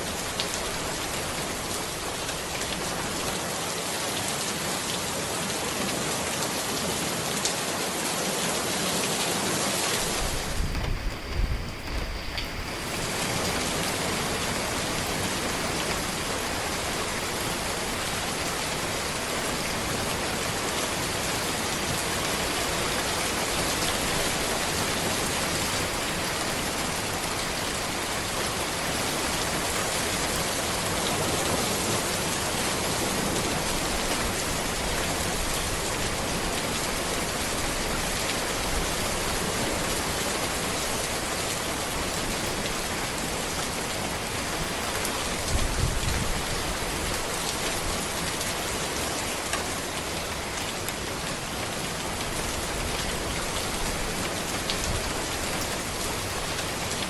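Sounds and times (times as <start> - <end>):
steady rain on road and trees: 0.0 - 57.0.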